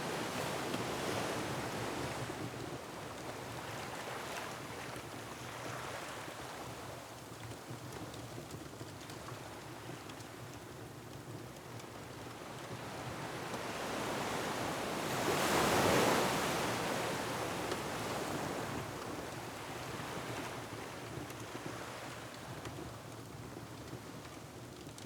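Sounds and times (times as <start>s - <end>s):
wind: 0.0s - 25.0s.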